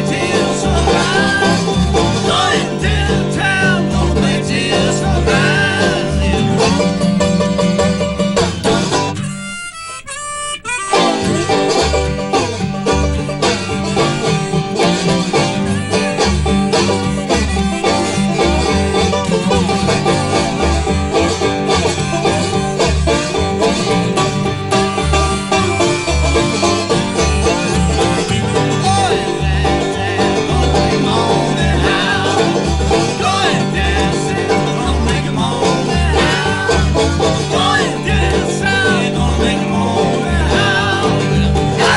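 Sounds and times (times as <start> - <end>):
bluegrass string band playing: 0.0 - 41.9.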